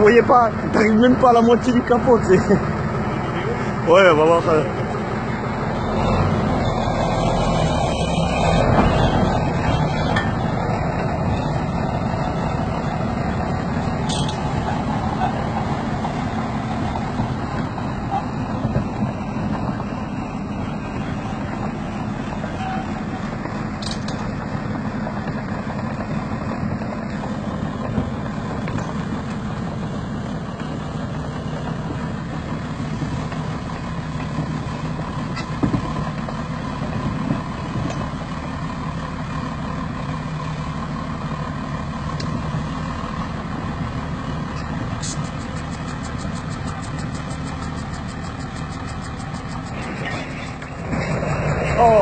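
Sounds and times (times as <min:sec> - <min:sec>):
heavy truck engine running: 0:00.0 - 0:52.0.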